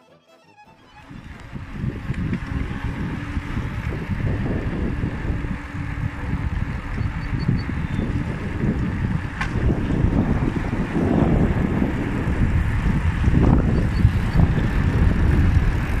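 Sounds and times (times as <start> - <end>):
wind buffeting microphone: 1.0 - 16.0.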